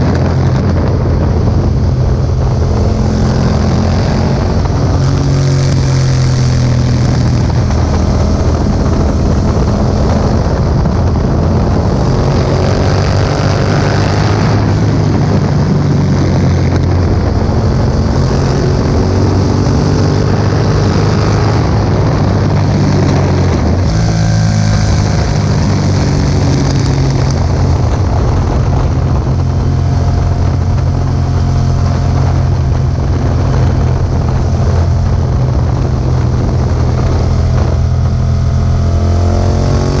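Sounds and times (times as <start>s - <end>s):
motorcycle engine revving: 0.0s - 40.0s
wind noise on microphone: 0.0s - 40.0s.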